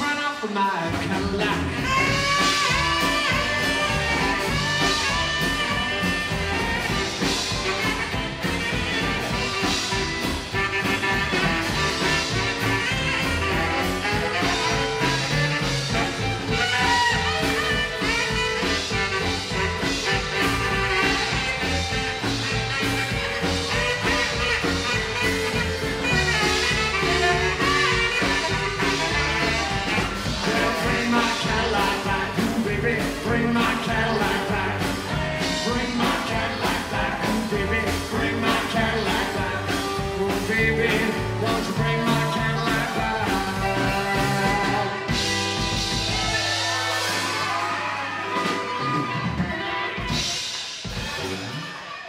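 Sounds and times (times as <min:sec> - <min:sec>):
drums: 0:00.0 - 0:52.0
rockabilly band playing: 0:00.0 - 0:52.0
saxophone: 0:00.0 - 0:52.0
upright double bass: 0:00.9 - 0:51.5.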